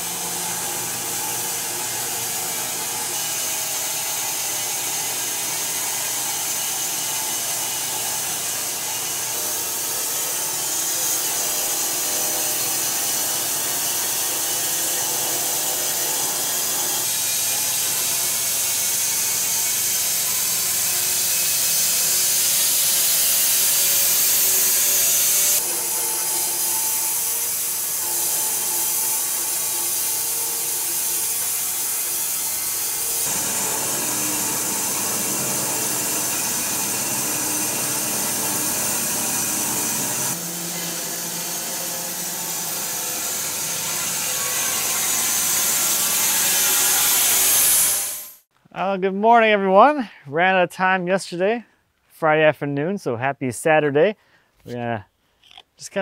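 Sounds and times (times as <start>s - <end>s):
bandsaw blade cutting log: 0.0s - 48.4s.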